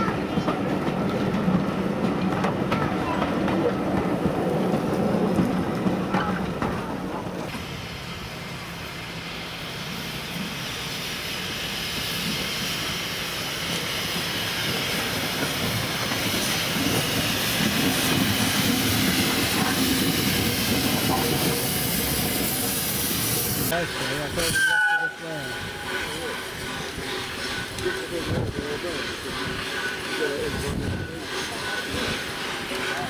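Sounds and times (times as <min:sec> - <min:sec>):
steam train approaching rush: 0:00.0 - 0:33.0.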